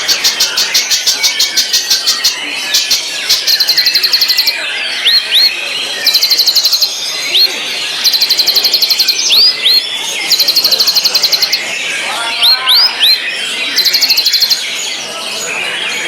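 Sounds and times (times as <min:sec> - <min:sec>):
songbird singing fast high notes: 0:00.2 - 0:14.7.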